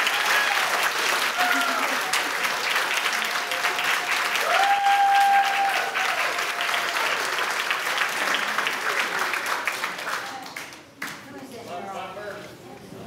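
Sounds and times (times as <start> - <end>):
audience clapping: 0.0 - 11.2.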